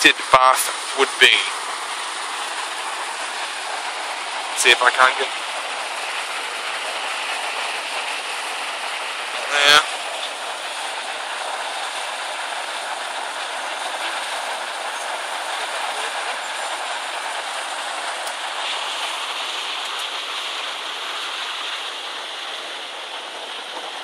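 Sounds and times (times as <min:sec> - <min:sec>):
water rushing over weir: 0:00.0 - 0:24.0.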